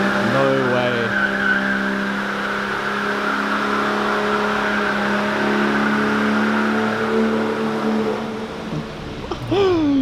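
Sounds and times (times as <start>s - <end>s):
engine revving high: 0.0s - 9.2s.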